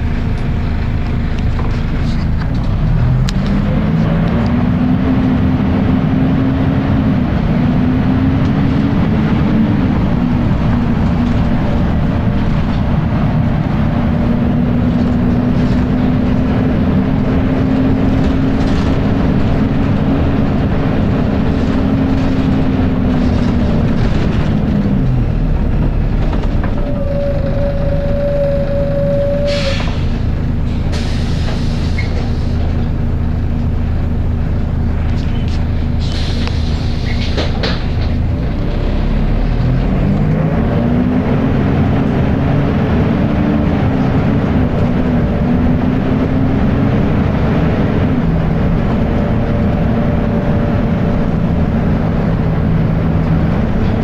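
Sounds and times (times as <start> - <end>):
bus diesel engine rumble: 0.0 - 54.0.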